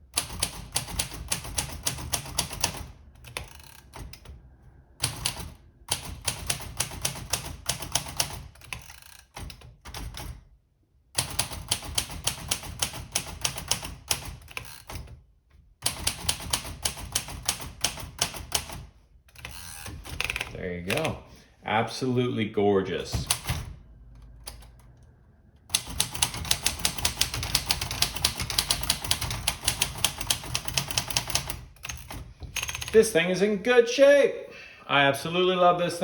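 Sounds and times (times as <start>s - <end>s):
manual typewriter typing: 0.0s - 10.4s, 11.2s - 15.2s, 15.8s - 21.2s, 23.1s - 25.0s, 25.6s - 33.1s.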